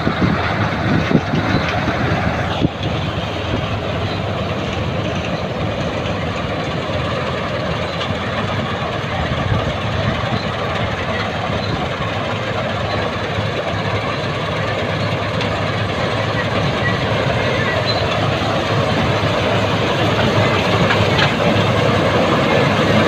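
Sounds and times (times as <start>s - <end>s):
combine harvester engine drone: 0.0s - 23.0s
cutting and threshing machinery: 0.0s - 23.0s.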